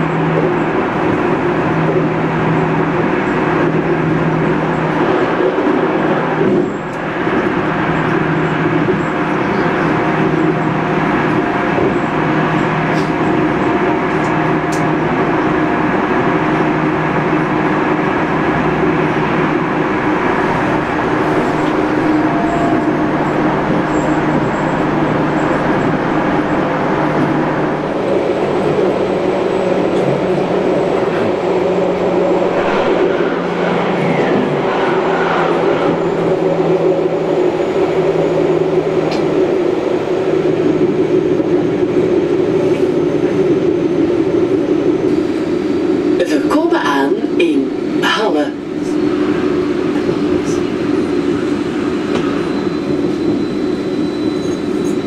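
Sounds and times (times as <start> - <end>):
traction motors humming: 0.0 - 46.2
train rail and rolling noise: 0.0 - 55.0.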